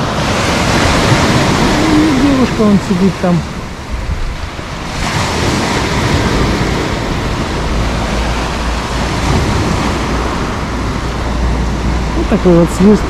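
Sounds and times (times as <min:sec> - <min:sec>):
waves washing over pebbles: 0:00.0 - 0:13.0.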